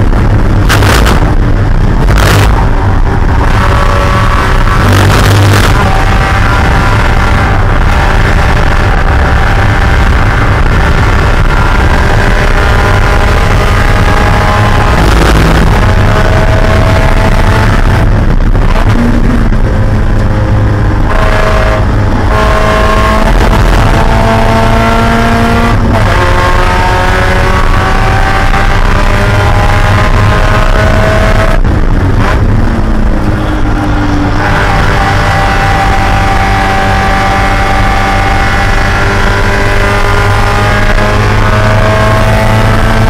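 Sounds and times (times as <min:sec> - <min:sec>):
race car engine at full throttle: 0:00.0 - 0:43.0.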